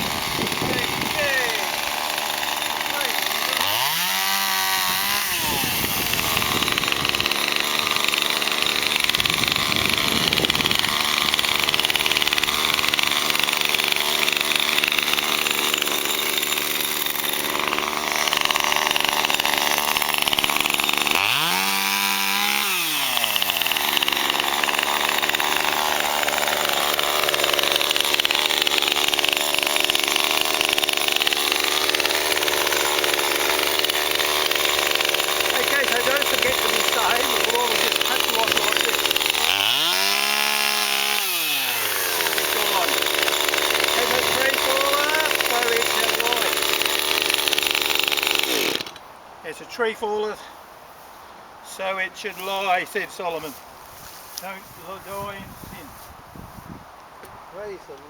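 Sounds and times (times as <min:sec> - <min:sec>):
chainsaw cutting tree trunk: 0:00.0 - 0:49.1, 0:54.3 - 0:55.9.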